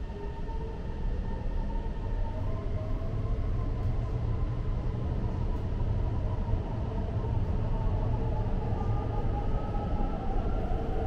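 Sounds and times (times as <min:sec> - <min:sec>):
train rumbling through tunnel: 0:00.0 - 0:11.0.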